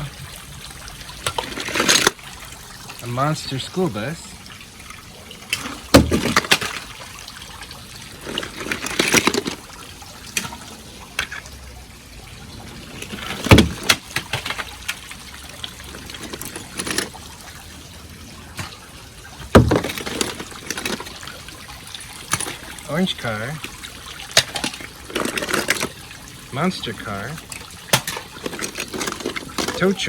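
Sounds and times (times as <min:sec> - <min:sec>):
sprinkler water running into pool: 0:00.0 - 0:30.0
toy cars splashing into water: 0:00.0 - 0:30.0.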